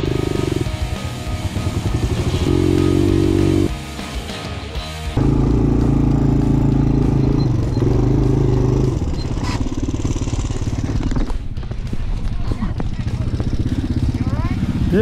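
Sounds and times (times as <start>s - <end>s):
motorcycle engine running: 0.0s - 4.0s, 5.1s - 15.0s.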